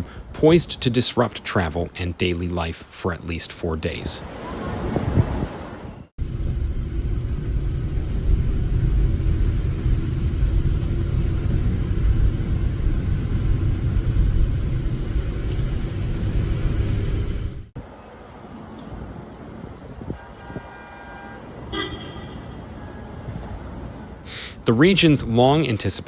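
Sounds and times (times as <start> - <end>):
road vehicle rumbling: 0.0 - 26.0.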